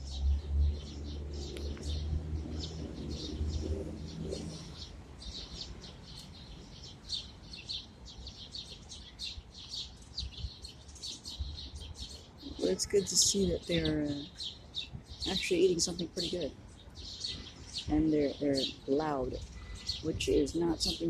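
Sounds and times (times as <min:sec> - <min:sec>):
flock of small birds chirping: 0:00.0 - 0:21.0.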